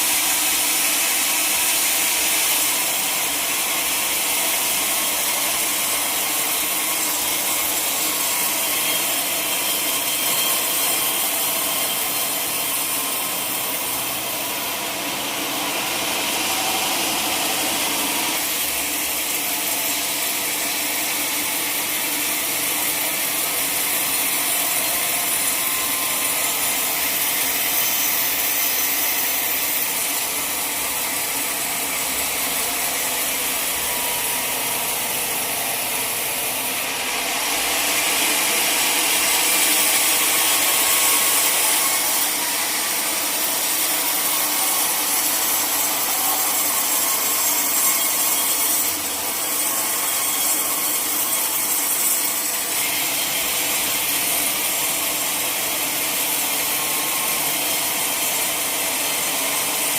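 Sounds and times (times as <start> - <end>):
saw cutting through log: 0.0 - 59.9.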